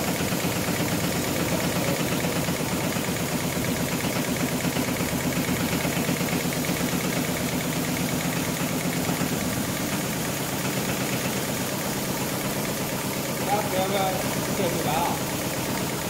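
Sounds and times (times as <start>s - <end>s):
sewing machine mechanical chatter: 0.0s - 16.0s.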